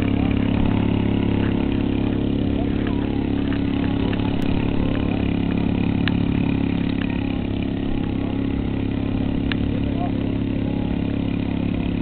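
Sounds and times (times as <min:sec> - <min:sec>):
model airplane engine idling: 0:00.0 - 0:12.0.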